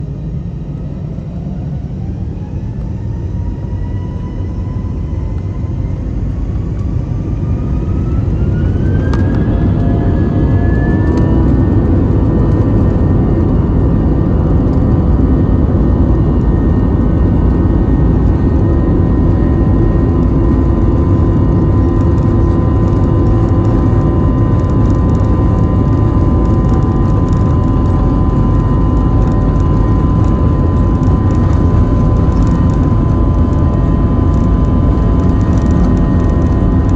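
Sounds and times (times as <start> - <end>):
heavy low rumble: 0.0 - 36.9.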